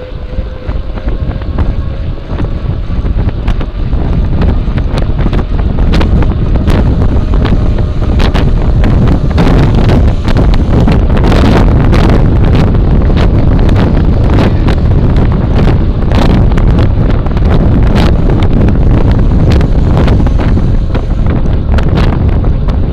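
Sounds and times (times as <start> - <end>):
road and tyre noise: 0.0 - 22.9
wind buffeting microphone: 0.0 - 22.9.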